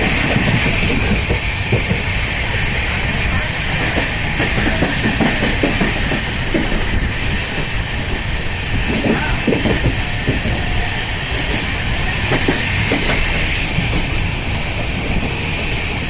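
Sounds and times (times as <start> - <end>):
train rumbling on rails: 0.0 - 16.0
wheel and track clatter: 0.0 - 16.0.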